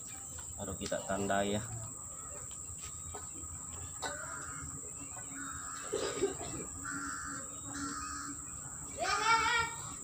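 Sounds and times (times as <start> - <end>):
bird calling: 0.1 - 10.0.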